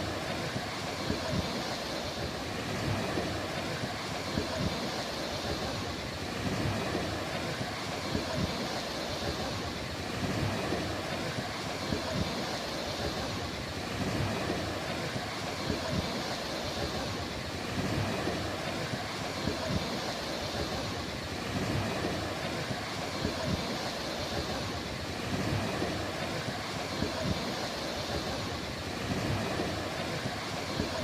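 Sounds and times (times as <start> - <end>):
sea waves washing onto beach: 0.0 - 31.0.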